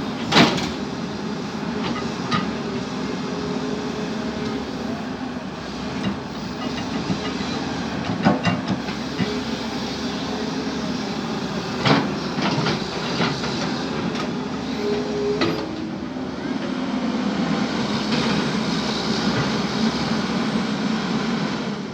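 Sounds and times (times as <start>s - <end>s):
excavator diesel engine: 0.0s - 21.9s.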